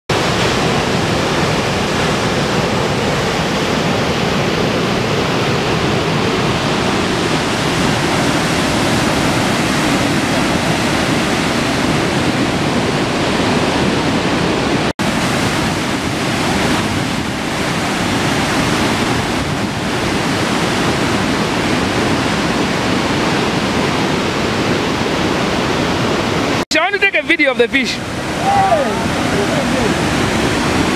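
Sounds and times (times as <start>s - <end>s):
floodwater rushing down spillway: 0.1s - 30.9s.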